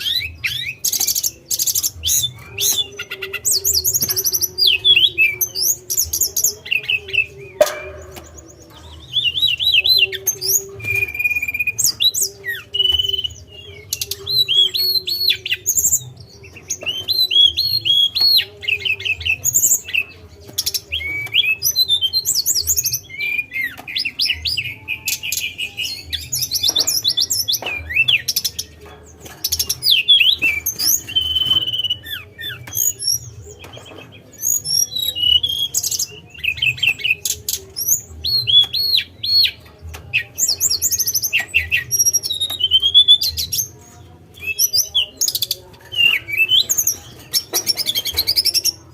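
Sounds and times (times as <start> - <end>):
bird singing chirps and trills: 0.0 - 48.9.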